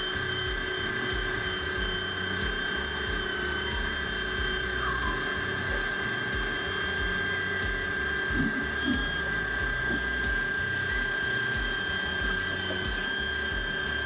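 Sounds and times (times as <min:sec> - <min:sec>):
pressure washer whining: 0:00.0 - 0:14.0
water jet hissing: 0:00.0 - 0:14.0.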